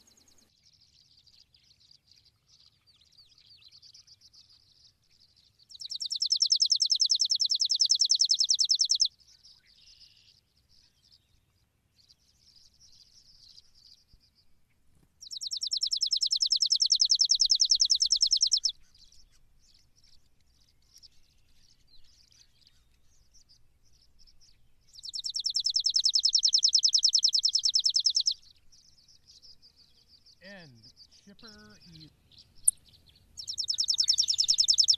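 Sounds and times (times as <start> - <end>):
faint chirps: 0.0 - 14.6, 15.2 - 34.9.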